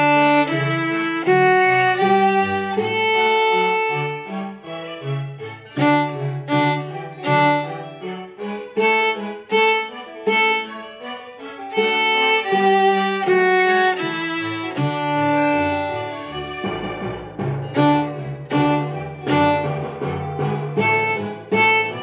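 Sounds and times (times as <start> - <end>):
lower accompaniment notes: 0.0 - 22.0
violin melody: 0.0 - 22.0.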